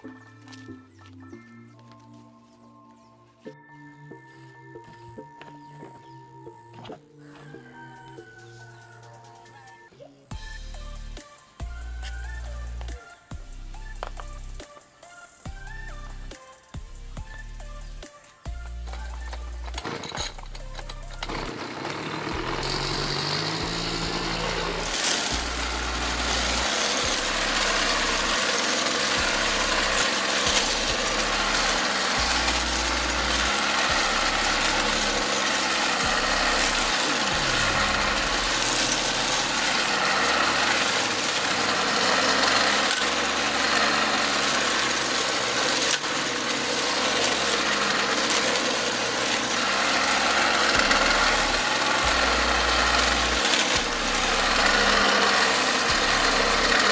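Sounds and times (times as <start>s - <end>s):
blade cutting weeds and grass: 6.8s - 56.9s
brushcutter engine running: 7.2s - 9.0s, 10.3s - 56.9s.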